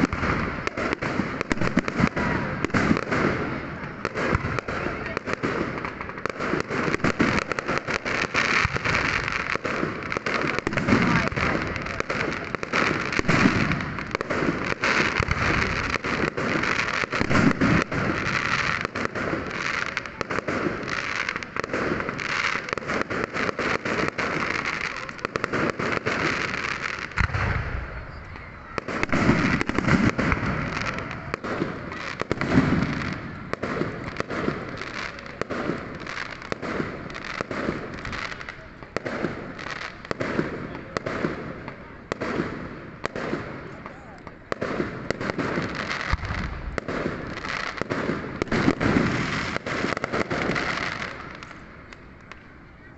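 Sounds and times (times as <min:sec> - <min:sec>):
firecrackers crackling and popping: 0:00.0 - 0:52.9
fireworks low bangs: 0:00.0 - 0:52.9.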